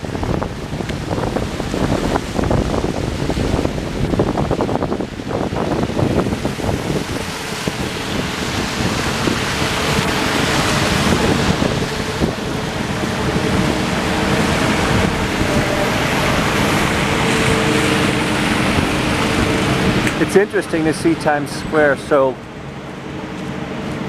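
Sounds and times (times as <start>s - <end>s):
passing cars: 0.0s - 24.0s
wind on microphone: 0.0s - 24.0s.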